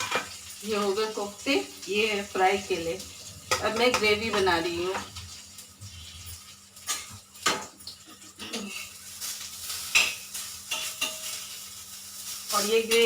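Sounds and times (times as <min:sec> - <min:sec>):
faint frying hiss: 0:00.0 - 0:13.0
metal utensils and dishes clinking: 0:00.0 - 0:13.0.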